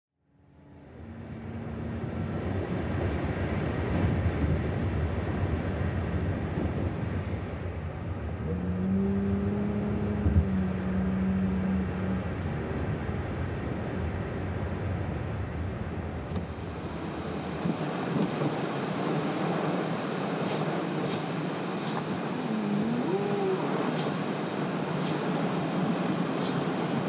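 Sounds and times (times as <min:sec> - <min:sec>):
car road and engine rumble: 0:00.2 - 0:27.0.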